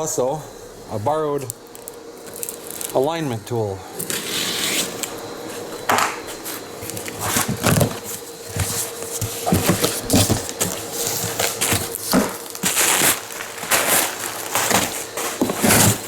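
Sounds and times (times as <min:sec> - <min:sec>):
packaging crinkling and rustling: 0:01.4 - 0:03.2, 0:04.0 - 0:16.0.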